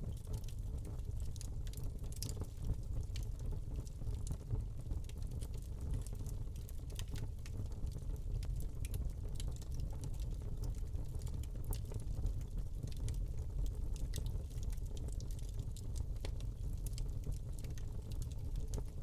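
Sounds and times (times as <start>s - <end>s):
log crackling and popping: 0.1s - 19.0s.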